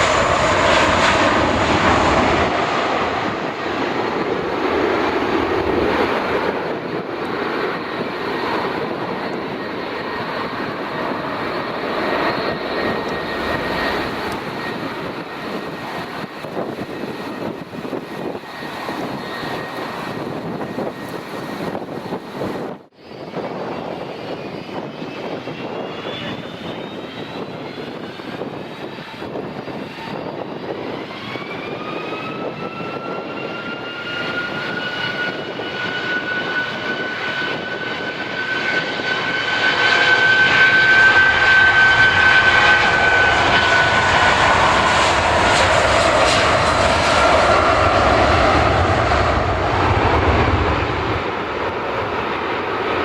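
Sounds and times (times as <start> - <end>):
airliner engine with high whine: 0.0 - 53.0.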